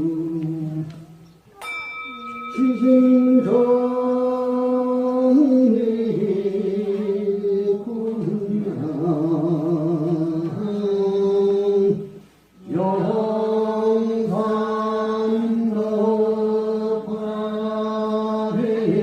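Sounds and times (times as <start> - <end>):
voice chanting long notes: 1.6 - 19.0.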